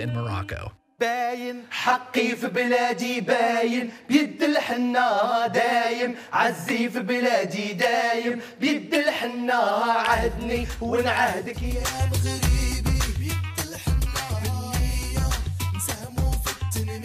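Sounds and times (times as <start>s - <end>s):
male vocal group singing: 0.0s - 17.0s.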